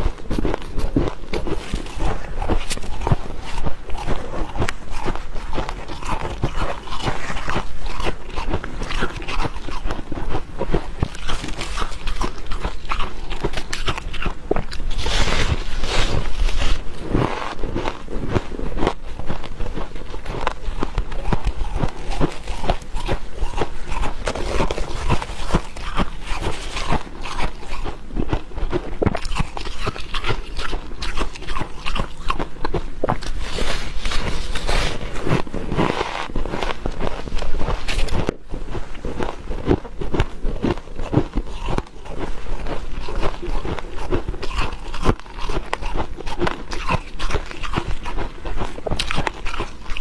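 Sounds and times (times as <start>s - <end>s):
frost crunching and squeaking: 0.0s - 18.0s, 19.8s - 38.4s, 40.6s - 50.0s.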